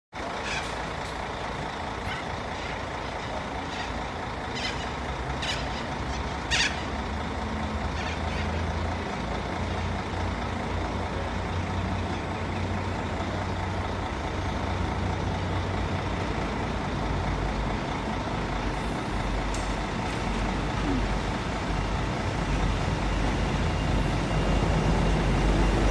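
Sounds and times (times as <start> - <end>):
distant diesel locomotive drone: 0.2 - 25.9.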